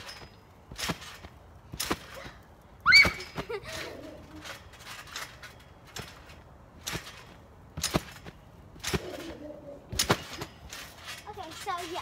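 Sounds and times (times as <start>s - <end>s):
trampoline mat and springs hits: 0.0s - 12.0s.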